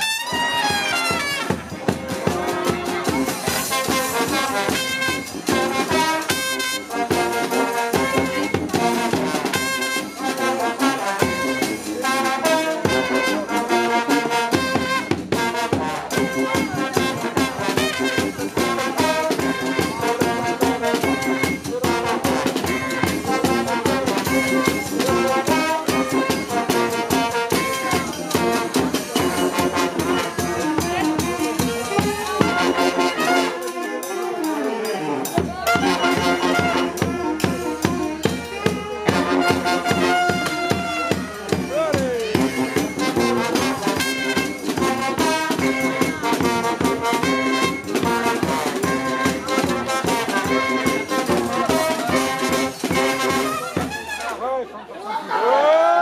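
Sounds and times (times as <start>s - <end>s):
street brass band playing: 0.0s - 55.1s.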